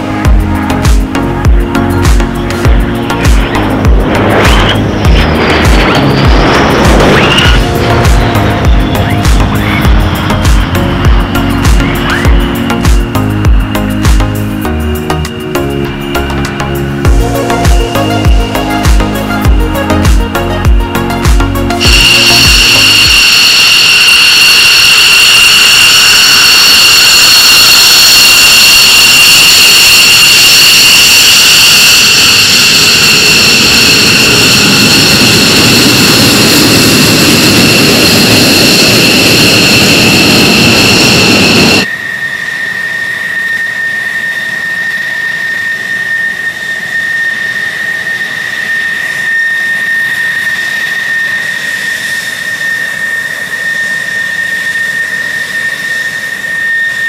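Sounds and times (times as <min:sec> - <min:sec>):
jet engine idling whine: 0:00.0 - 0:57.0
jet engines high whine: 0:00.0 - 0:57.0.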